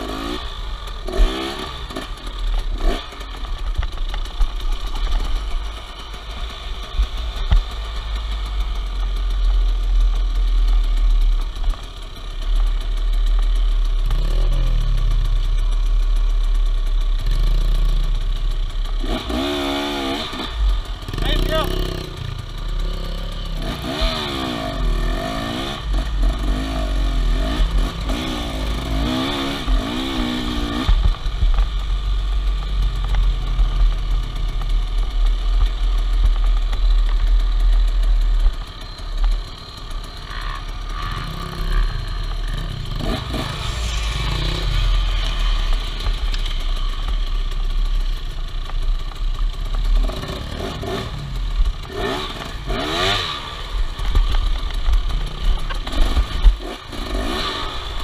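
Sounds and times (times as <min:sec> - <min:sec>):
dirt bike engine revving: 0:00.0 - 0:48.6, 0:49.6 - 0:58.0.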